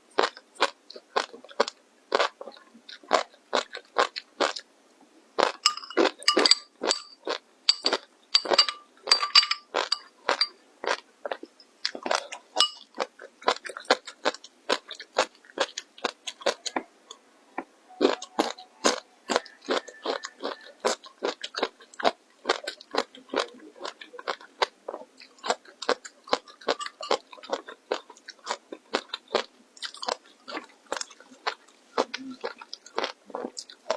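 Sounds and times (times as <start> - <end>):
crunching and chewing crisp food: 0.0 - 4.7, 5.3 - 17.2, 18.0 - 33.9.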